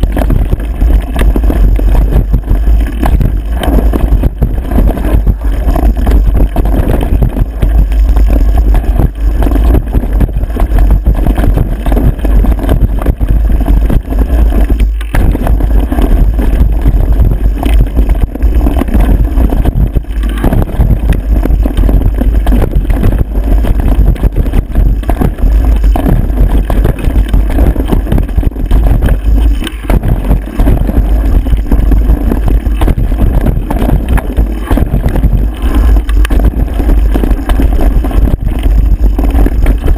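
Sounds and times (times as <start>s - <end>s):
camera rattling and jolting: 0.0s - 39.9s
wind buffeting microphone: 0.0s - 39.9s.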